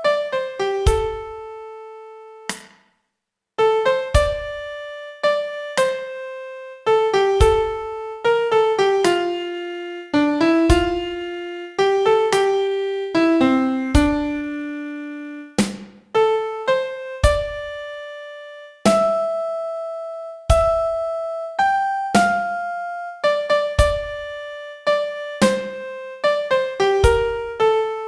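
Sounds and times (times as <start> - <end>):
slow piano melody: 0.0 - 2.5, 3.6 - 15.6, 16.2 - 28.0.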